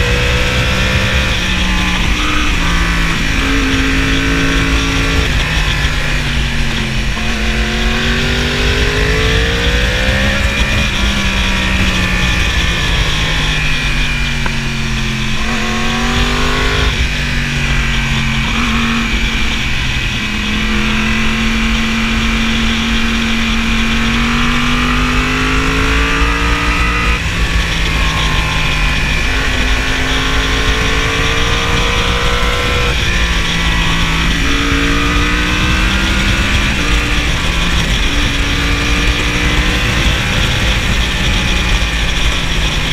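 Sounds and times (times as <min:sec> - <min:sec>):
motorcycle engine running: 0:00.0 - 0:42.9
wind rushing: 0:00.0 - 0:42.9.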